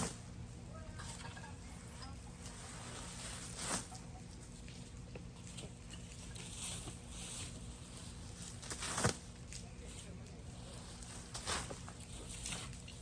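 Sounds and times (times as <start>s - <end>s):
garden fork turning leaves: 0.0s - 13.0s.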